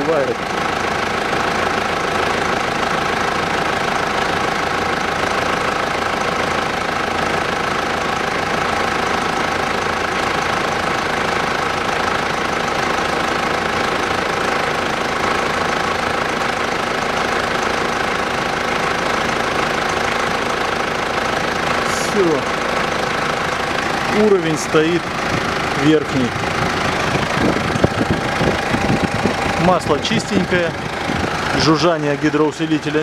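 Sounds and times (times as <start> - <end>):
diesel engine idling: 0.0 - 33.0
radiator fan running: 0.0 - 33.0.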